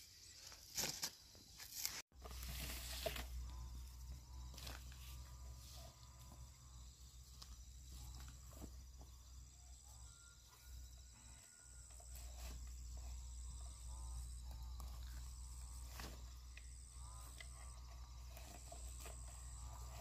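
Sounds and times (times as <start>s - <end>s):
insect chirring: 3.2s - 20.0s.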